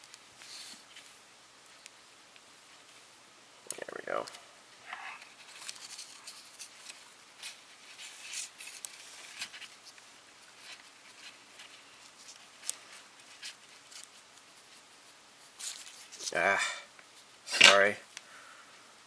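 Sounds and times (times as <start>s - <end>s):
wire rustles and ticks: 0.0s - 18.3s.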